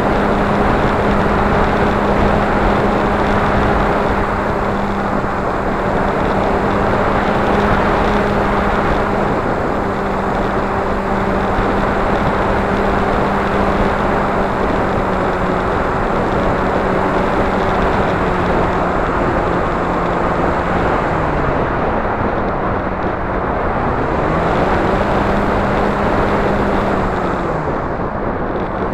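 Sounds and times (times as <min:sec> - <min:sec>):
motor and propeller droning: 0:00.0 - 0:28.9
wind rush on microphone: 0:00.0 - 0:28.9.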